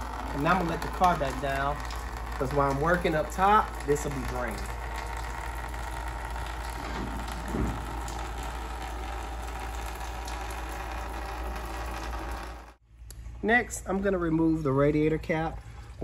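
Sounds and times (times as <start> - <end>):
hydraulic pump humming: 0.0 - 12.8.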